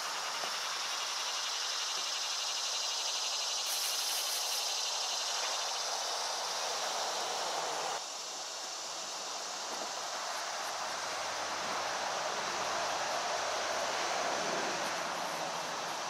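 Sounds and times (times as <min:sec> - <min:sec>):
background hiss: 0:00.0 - 0:16.0
insects chirring: 0:00.0 - 0:16.0.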